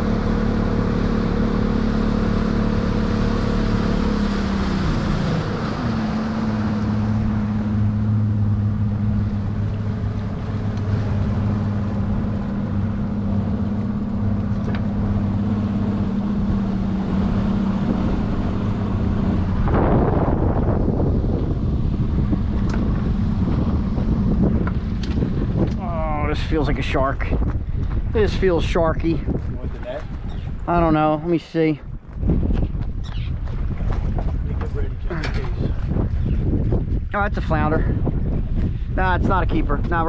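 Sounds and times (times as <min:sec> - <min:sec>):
boat motor running: 0:00.0 - 0:40.0
rush of wind or water: 0:00.0 - 0:40.0
wind on microphone: 0:02.2 - 0:40.0.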